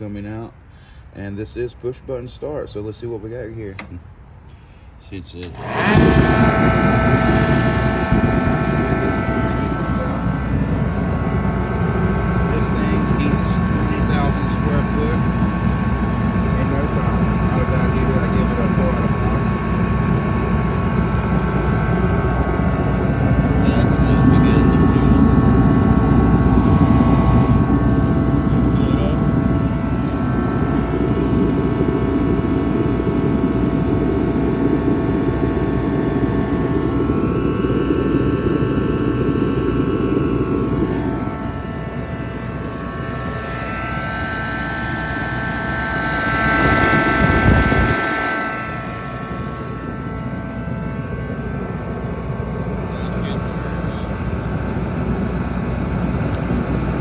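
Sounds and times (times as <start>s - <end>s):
forced-air heater fan and burner: 0.0s - 57.0s
steady whining tones: 5.2s - 57.0s.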